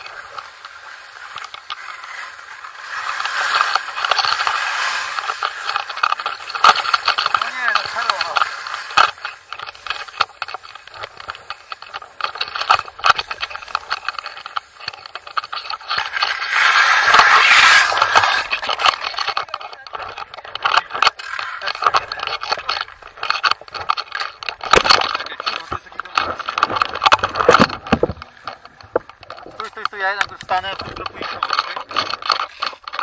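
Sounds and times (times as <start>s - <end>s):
clicks and rattles: 0.0s - 33.0s
skis scraping over snow: 0.0s - 33.0s.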